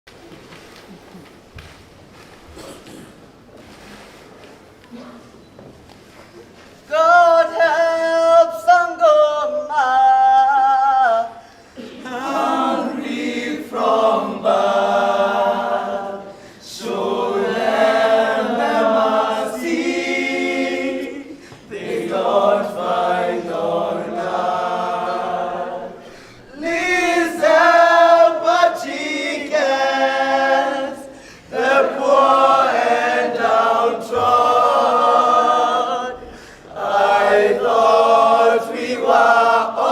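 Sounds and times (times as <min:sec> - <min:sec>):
group singing unaccompanied: 0:06.9 - 0:39.9.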